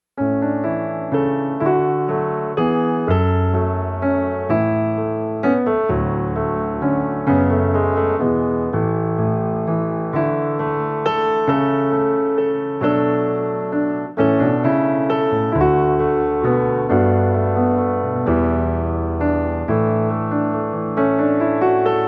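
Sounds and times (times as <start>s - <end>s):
slow gentle piano music: 0.2s - 22.0s.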